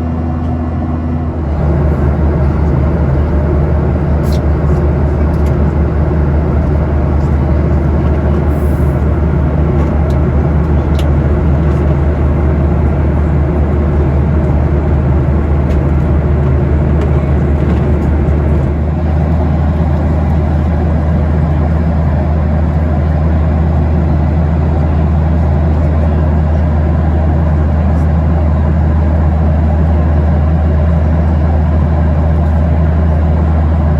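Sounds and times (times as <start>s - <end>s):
aircraft cabin drone: 0.0s - 33.9s.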